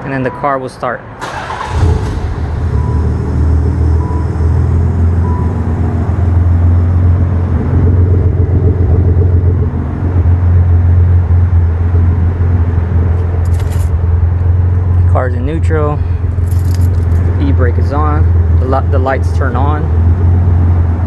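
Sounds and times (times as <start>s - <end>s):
car engine idling: 1.2s - 21.0s.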